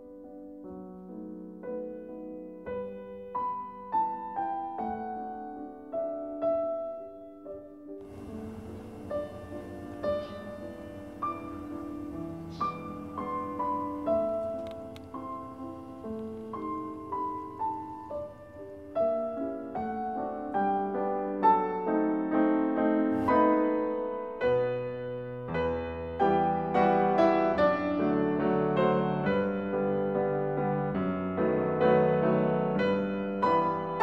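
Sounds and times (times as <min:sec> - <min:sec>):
gentle piano music: 0:00.0 - 0:34.0.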